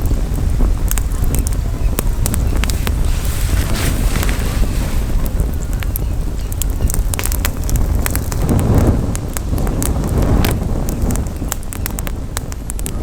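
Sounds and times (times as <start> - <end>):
campfire crackling and popping: 0.0 - 13.0
wind rumble on microphone: 0.0 - 13.0.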